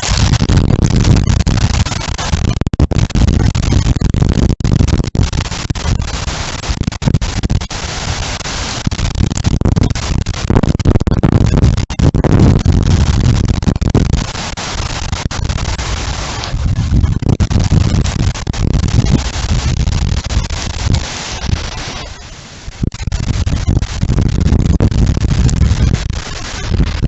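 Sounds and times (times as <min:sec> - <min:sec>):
gusting wind buffeting microphone: 0:00.0 - 0:27.0.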